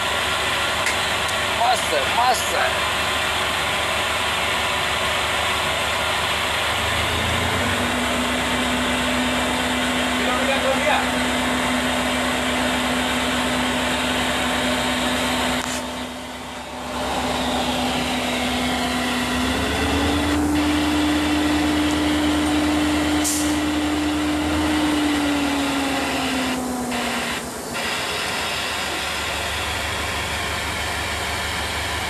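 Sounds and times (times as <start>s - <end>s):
noisy rush: 0.0s - 32.0s
train engine hum: 0.0s - 32.0s.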